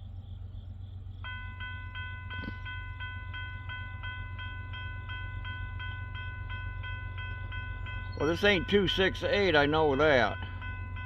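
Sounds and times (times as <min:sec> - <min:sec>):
low train rumble: 0:00.0 - 0:11.0
railroad crossing bell ringing: 0:01.0 - 0:11.0.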